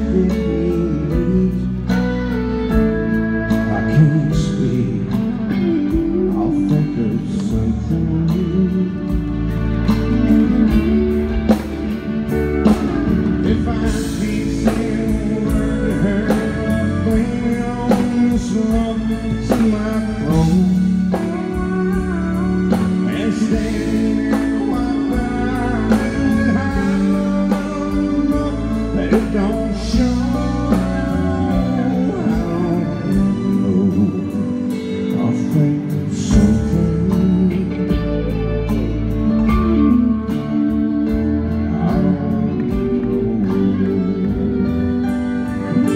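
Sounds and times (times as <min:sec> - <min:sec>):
country band playing: 0:00.0 - 0:45.9
person singing: 0:00.0 - 0:45.9.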